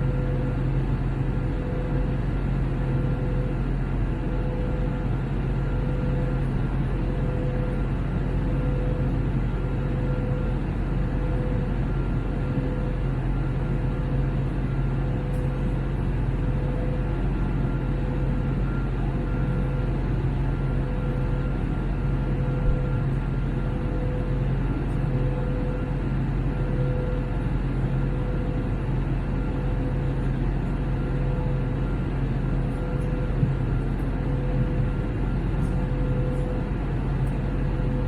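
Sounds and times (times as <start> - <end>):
airplane cabin drone: 0.0 - 38.0
faint steady whine: 0.0 - 38.0.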